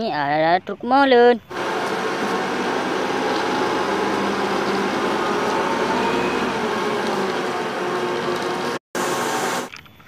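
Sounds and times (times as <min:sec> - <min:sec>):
truck diesel engine droning: 0:01.5 - 0:09.6.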